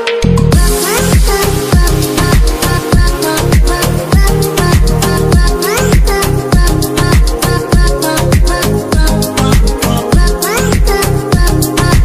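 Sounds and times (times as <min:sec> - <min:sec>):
upbeat melody: 0:00.0 - 0:12.0.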